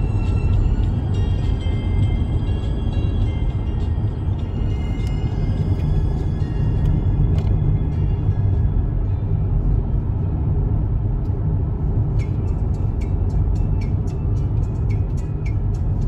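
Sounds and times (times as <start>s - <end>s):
car cabin road rumble: 0.0s - 16.0s.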